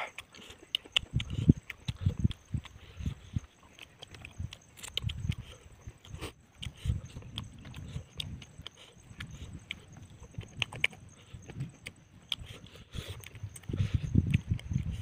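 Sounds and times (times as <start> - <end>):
person chewing with wet smacks: 0.0 - 15.0.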